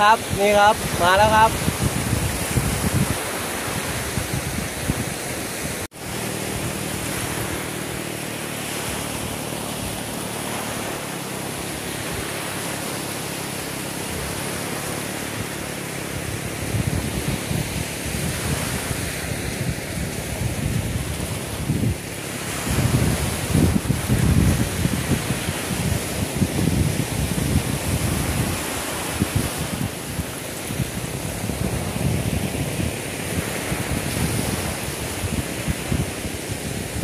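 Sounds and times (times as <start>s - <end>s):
waves breaking on sand: 0.0s - 37.0s
wind gusting on microphone: 0.0s - 37.0s.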